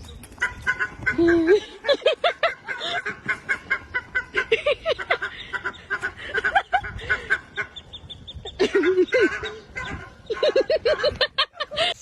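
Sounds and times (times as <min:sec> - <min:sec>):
fowl calling: 0:00.4 - 0:11.2.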